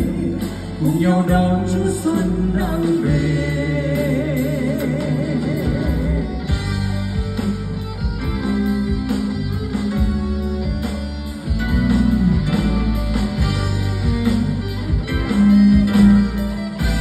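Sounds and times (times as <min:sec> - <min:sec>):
bass: 0:00.0 - 0:17.0
drum kit beat: 0:00.0 - 0:17.0.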